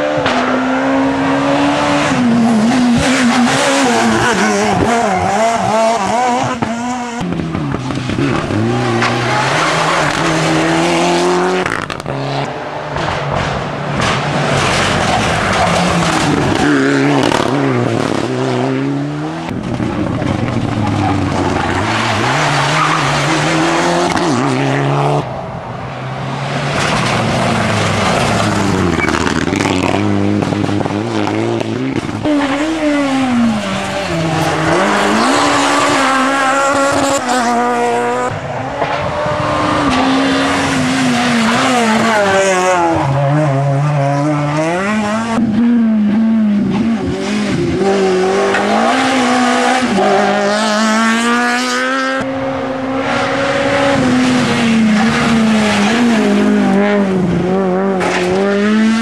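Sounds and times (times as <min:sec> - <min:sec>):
rally cars passing at speed: 0:00.0 - 0:59.0.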